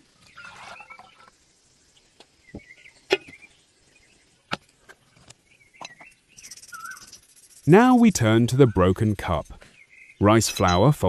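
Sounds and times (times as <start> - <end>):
faint chirping: 0.1 - 11.0.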